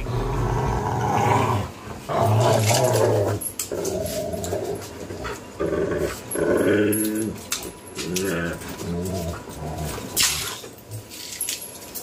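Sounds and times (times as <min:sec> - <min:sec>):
dog growling: 0:00.0 - 0:10.6.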